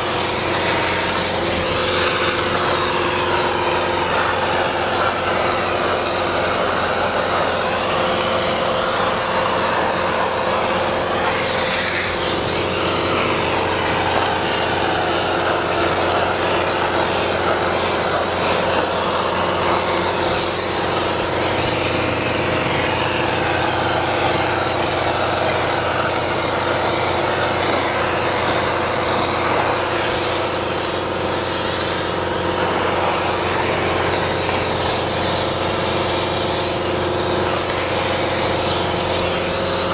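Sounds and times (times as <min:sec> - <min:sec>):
machinery droning: 0:00.0 - 0:39.9
spray foam gun hissing: 0:00.0 - 0:39.9.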